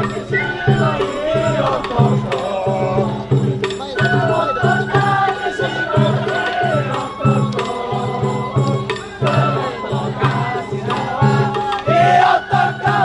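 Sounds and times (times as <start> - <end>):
bamboo flute melody: 0.0 - 13.0
taiko drums beating: 0.0 - 13.0.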